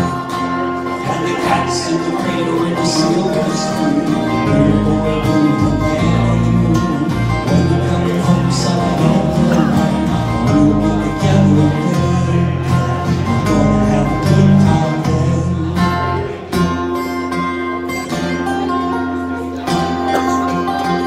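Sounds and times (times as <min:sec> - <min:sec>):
acoustic guitars playing chords: 0:00.0 - 0:21.0.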